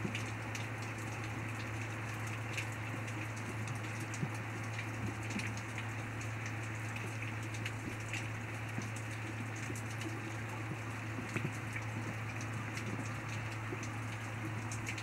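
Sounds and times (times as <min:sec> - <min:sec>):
close raindrops ticking: 0:00.0 - 0:15.0
low steady hum: 0:00.0 - 0:15.0
steady rain falling: 0:00.0 - 0:15.0.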